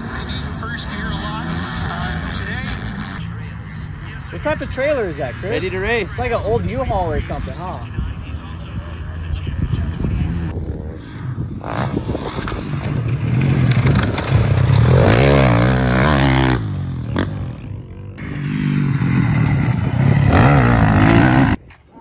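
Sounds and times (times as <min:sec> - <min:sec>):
dirt bike engines revving: 0:00.0 - 0:21.8.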